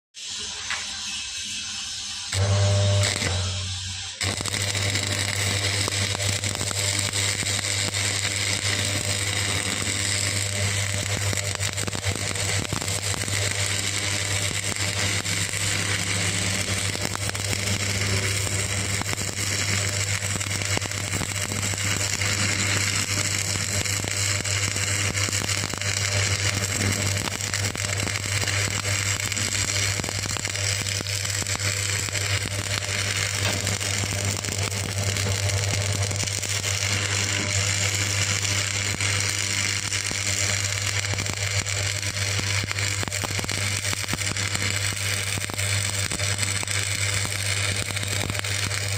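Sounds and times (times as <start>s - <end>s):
welding arc crackling: 0.2s - 48.9s
low buzz: 0.3s - 48.9s.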